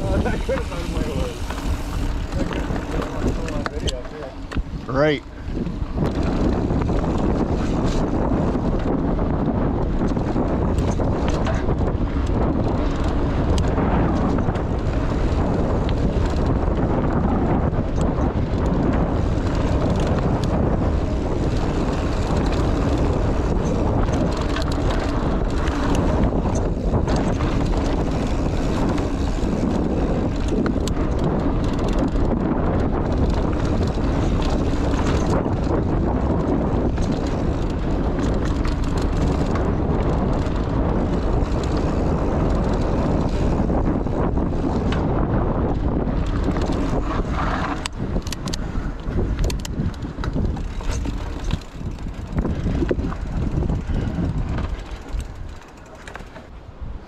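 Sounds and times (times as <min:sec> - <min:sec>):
bike rattling over bumps: 0:00.0 - 0:57.0
bike tyres rolling on dirt: 0:00.0 - 0:57.0
wind rushing over microphone: 0:00.0 - 0:57.0.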